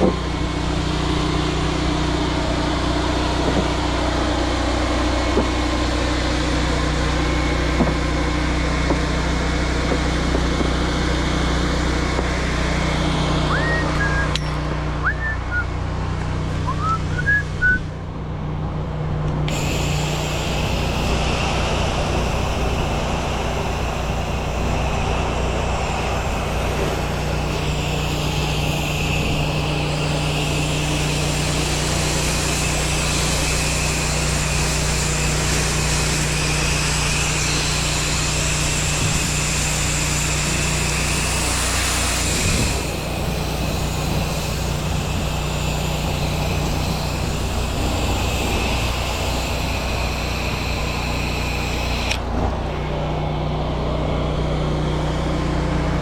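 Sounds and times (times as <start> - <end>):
high-pressure water spray hissing: 0.0 - 14.4, 19.4 - 52.8
pressure washer engine running: 0.0 - 56.0.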